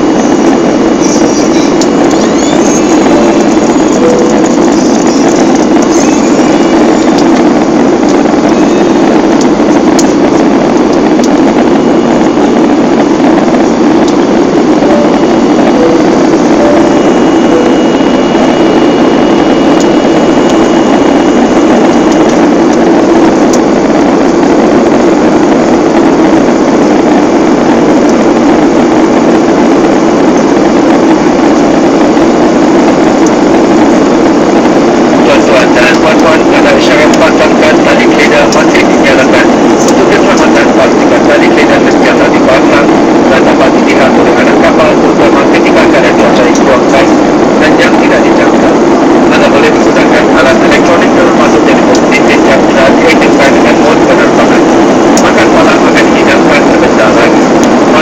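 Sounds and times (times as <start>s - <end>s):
airplane engines droning in cabin: 0.0s - 58.0s.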